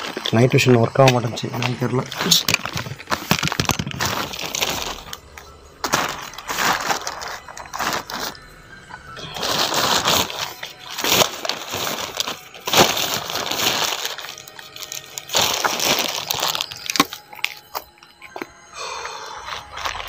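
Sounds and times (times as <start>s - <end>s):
plastic bag crinkling: 0.0s - 18.5s.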